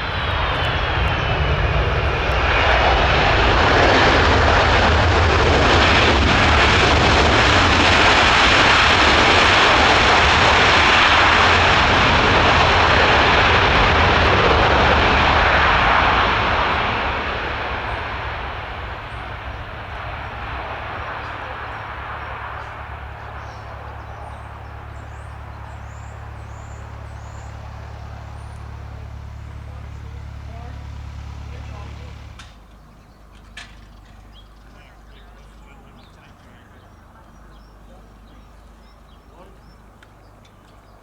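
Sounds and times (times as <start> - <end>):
jet engine roar: 0.0 - 41.0.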